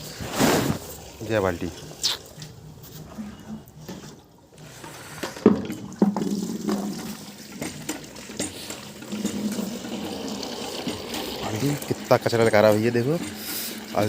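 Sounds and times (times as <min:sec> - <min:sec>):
water pouring into a bucket: 0:00.0 - 0:02.6, 0:04.4 - 0:14.0.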